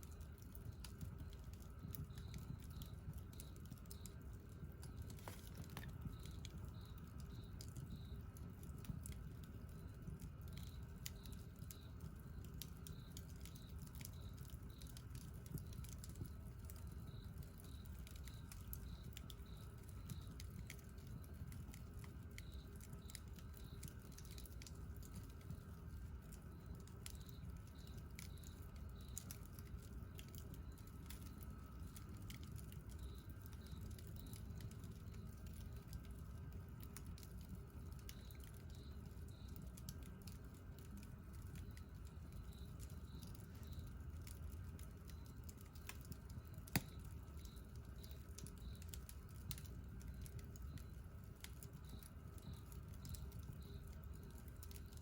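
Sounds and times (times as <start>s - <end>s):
campfire crackling and popping: 0.0s - 55.0s
campfire rumble: 0.0s - 55.0s.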